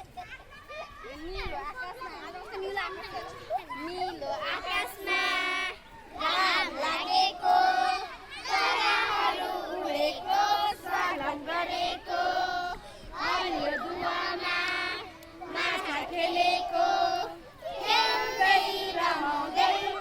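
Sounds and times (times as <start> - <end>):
young children singing: 3.8 - 20.0.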